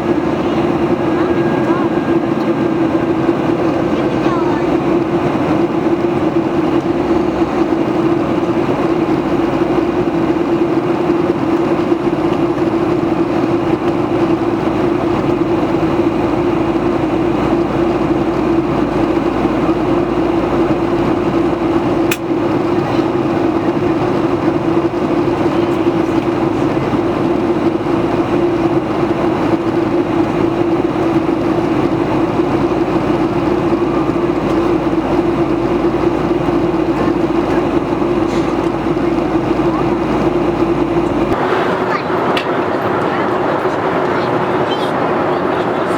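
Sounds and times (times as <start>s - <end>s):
jet engine cabin drone: 0.0s - 45.9s.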